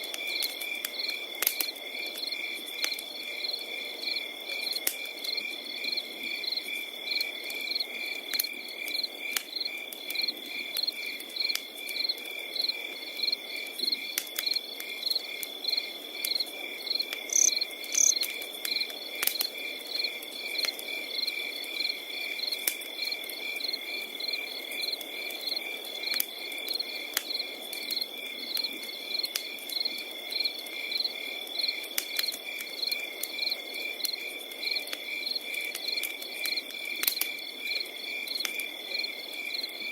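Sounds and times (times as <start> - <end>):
crickets trilling and chirping: 0.0 - 39.9
wood fire crackling and popping: 0.0 - 39.9.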